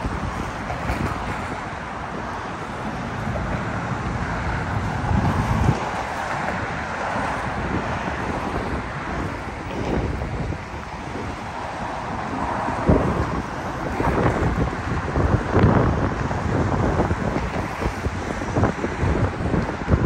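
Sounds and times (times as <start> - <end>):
traffic going by: 0.0 - 20.0
wind buffeting microphone: 0.0 - 20.0.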